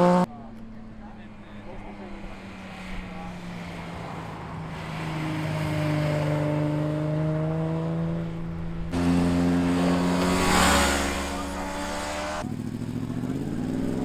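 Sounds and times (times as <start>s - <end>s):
motorcycles riding past: 0.0s - 0.3s, 0.9s - 14.0s.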